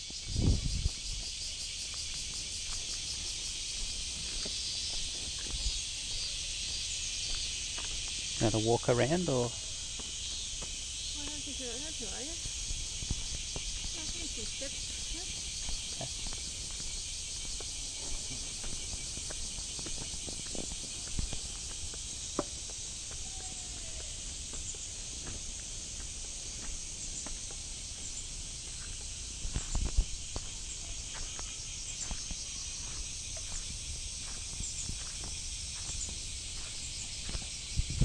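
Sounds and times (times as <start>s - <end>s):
insects chorus: 0.0s - 38.0s.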